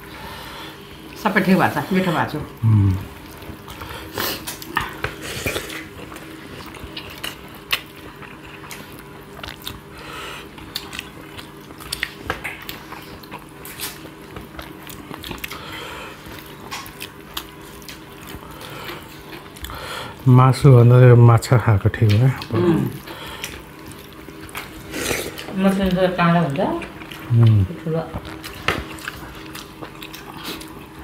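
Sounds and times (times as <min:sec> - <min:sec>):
faint steady hum: 0:00.0 - 0:31.0
chewing: 0:01.9 - 0:20.2, 0:22.0 - 0:31.0.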